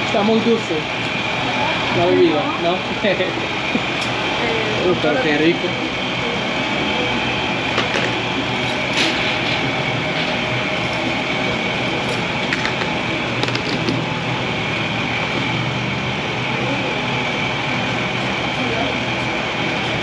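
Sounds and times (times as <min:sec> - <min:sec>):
mechanical whirring with high whine: 0:00.0 - 0:20.0.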